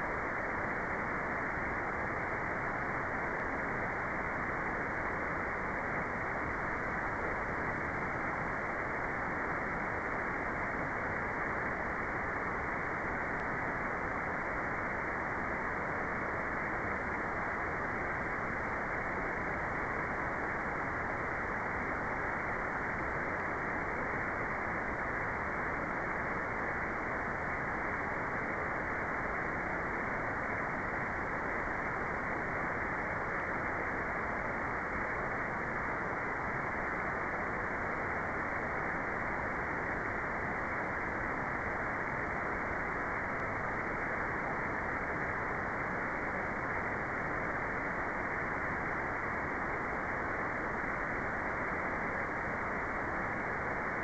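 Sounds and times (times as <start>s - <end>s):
muffled white noise: 0.0s - 54.0s.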